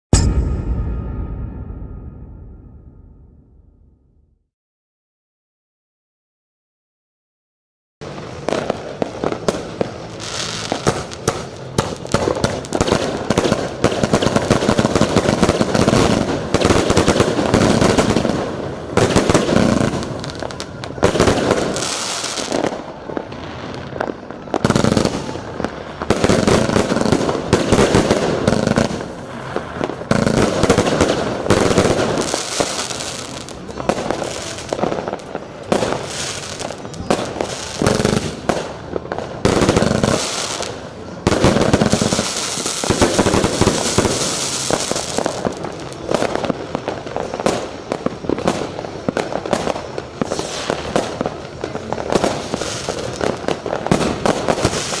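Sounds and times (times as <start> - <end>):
firework barrage: 8.0 - 55.0.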